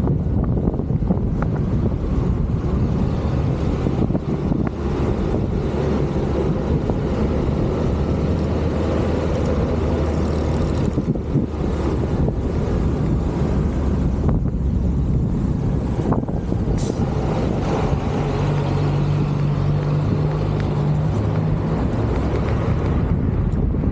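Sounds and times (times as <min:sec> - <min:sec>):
vehicle engine running: 0:00.0 - 0:23.9.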